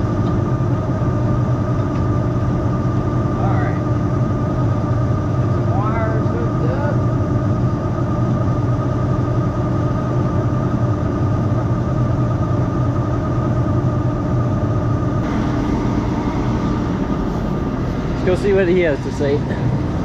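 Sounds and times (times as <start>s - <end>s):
diesel engine droning: 0.0s - 20.0s
thin steady whine: 0.0s - 20.0s.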